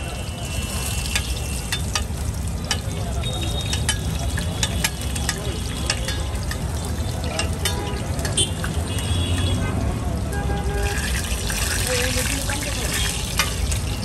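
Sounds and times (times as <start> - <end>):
food sizzling in a pan: 0.0 - 9.5, 10.8 - 14.0.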